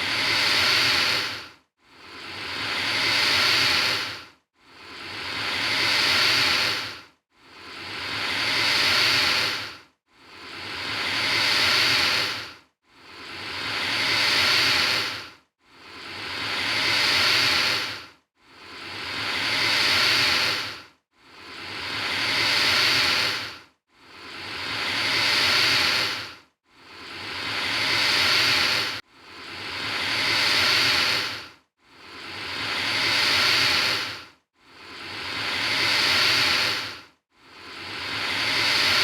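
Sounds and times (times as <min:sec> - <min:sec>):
alligator hissing: 0:00.0 - 0:01.4, 0:02.1 - 0:06.9, 0:07.6 - 0:09.7, 0:10.4 - 0:12.5, 0:13.1 - 0:15.2, 0:15.9 - 0:18.0, 0:18.7 - 0:20.8, 0:21.4 - 0:23.5, 0:24.2 - 0:26.3, 0:26.9 - 0:31.4, 0:32.1 - 0:37.0, 0:37.7 - 0:39.0.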